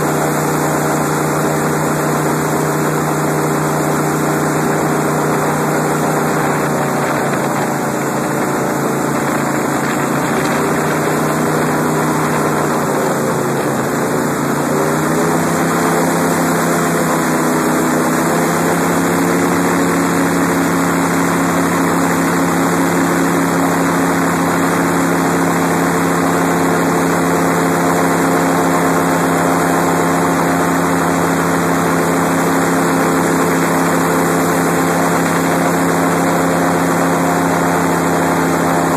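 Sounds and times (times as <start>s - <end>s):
airboat engine and propeller: 0.0s - 38.9s.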